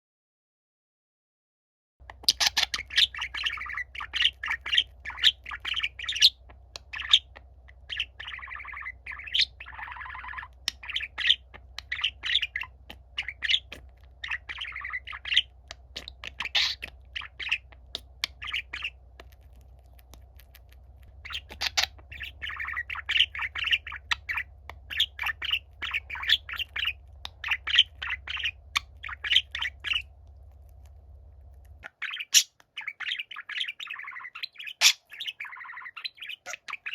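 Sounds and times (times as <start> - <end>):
budgerigar chirping and squawking: 2.0 - 30.8, 31.4 - 36.9.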